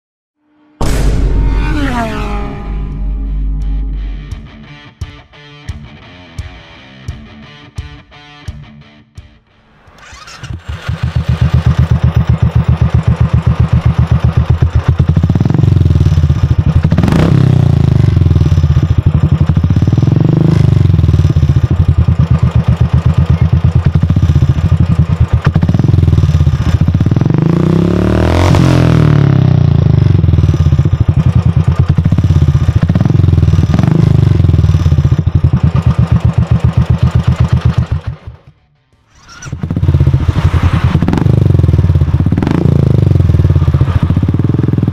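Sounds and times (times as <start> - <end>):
motorcycle engine idling and revving: 0.8 - 5.1, 9.7 - 44.9.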